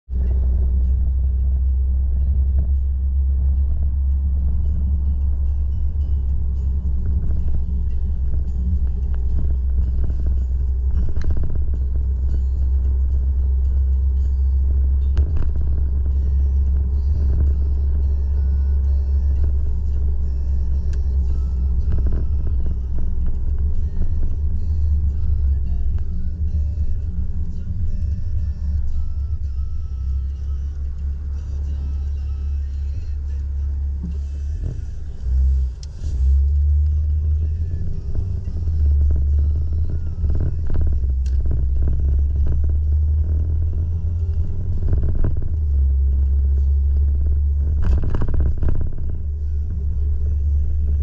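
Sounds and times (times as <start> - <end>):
loud low rumble: 0.0 - 51.0.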